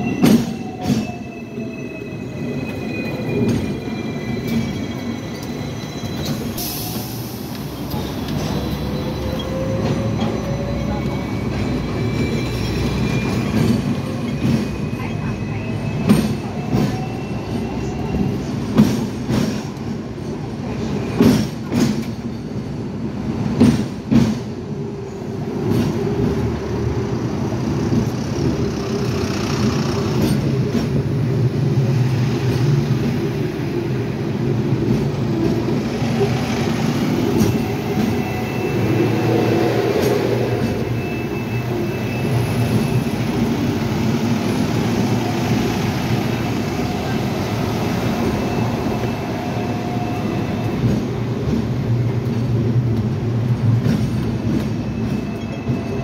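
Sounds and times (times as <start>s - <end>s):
tram rumbling on rails: 0.0s - 56.0s
tram wheels clacking: 0.0s - 56.0s.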